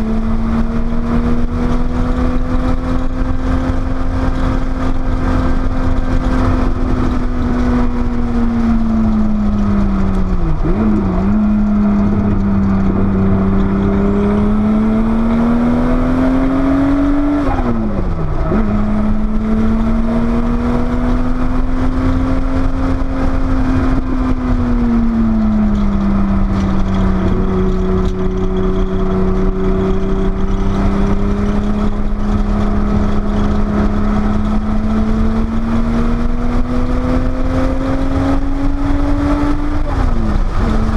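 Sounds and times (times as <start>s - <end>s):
sports car engine on track: 0.0s - 40.9s
wind and road noise: 0.0s - 40.9s.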